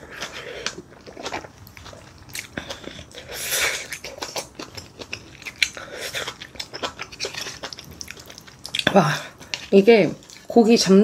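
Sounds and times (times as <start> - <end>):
chewing with wet mouth clicks: 0.0 - 10.6.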